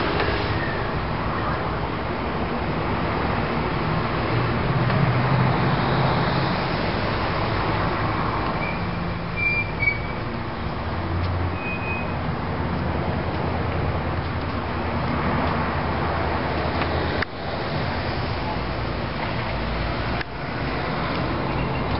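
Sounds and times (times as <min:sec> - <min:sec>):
street traffic: 0:00.0 - 0:21.9.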